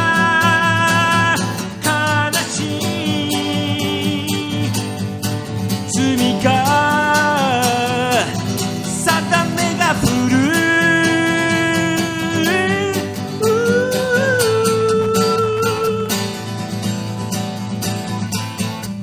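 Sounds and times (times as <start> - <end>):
man singing: 0.0 - 16.7
acoustic guitar strumming: 0.0 - 19.0.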